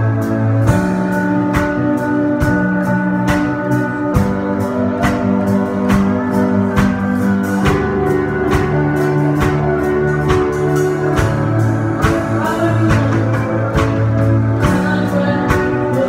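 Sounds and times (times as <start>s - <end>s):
keyboard and guitar chords: 0.0s - 16.0s.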